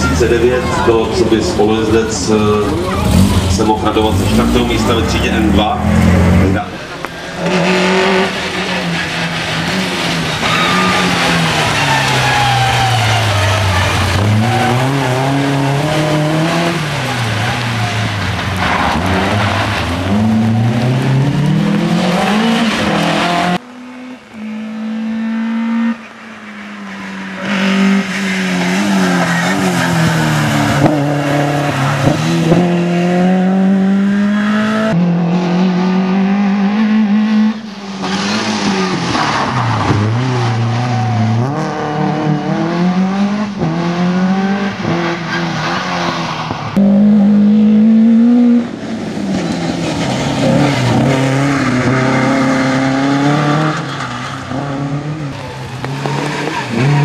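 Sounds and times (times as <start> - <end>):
rally car engine accelerating: 0.0 - 57.0.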